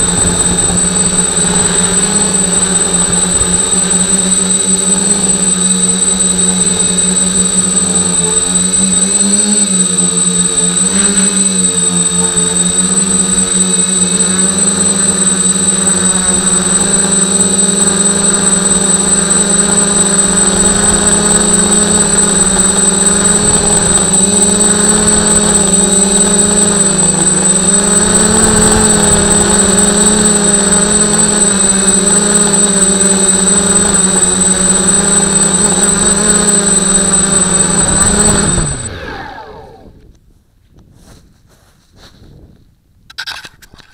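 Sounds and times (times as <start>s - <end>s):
model aircraft motor whine: 0.0s - 40.2s.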